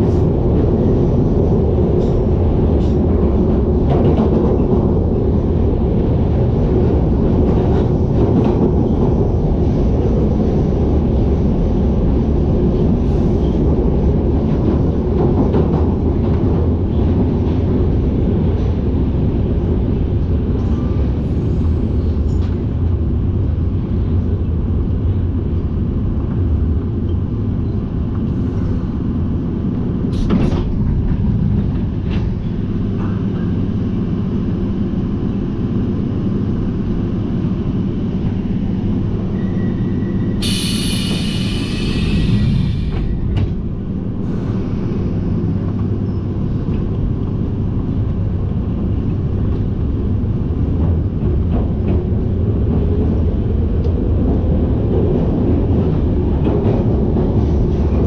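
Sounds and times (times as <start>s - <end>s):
train rumbling through tunnel: 0.0s - 58.0s.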